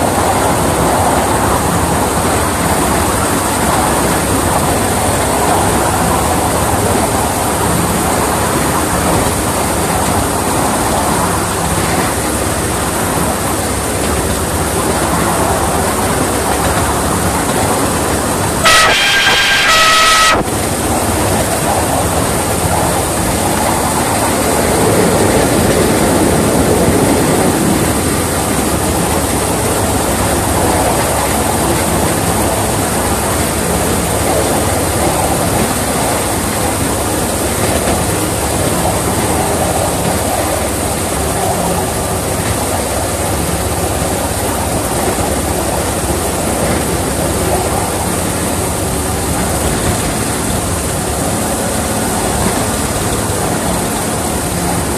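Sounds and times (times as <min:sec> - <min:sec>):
miniature locomotive engine: 0:00.0 - 0:54.9
wheels on rails: 0:00.0 - 0:54.9.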